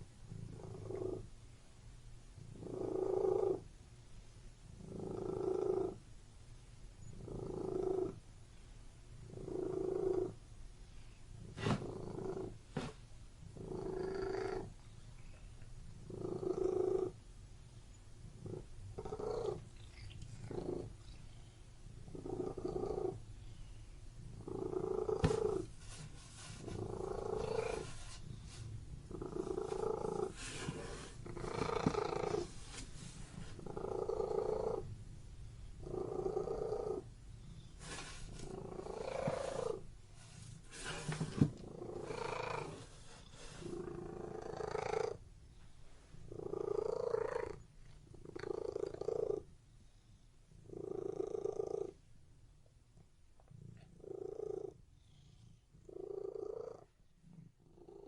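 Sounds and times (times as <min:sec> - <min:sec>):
cat purring: 0:00.0 - 0:01.4, 0:02.4 - 0:03.7, 0:04.7 - 0:06.1, 0:07.0 - 0:17.2, 0:18.2 - 0:45.3, 0:46.1 - 0:52.1, 0:53.0 - 0:58.0.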